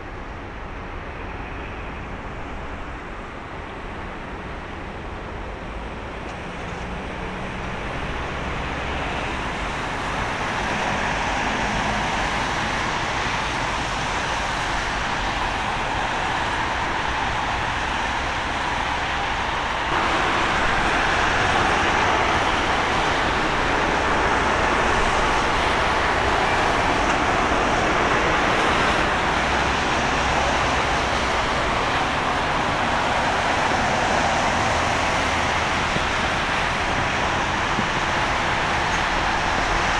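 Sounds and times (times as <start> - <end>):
jet engines landing: 0.8 - 39.9.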